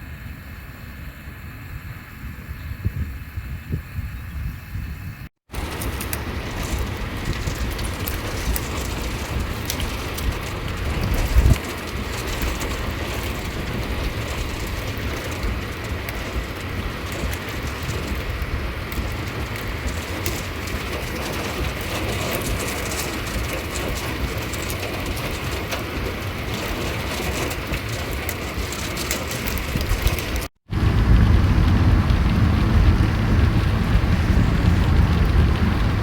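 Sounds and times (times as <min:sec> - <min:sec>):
moving vehicle rumble: 0:02.7 - 0:36.0
rain on a vehicle: 0:05.4 - 0:36.0.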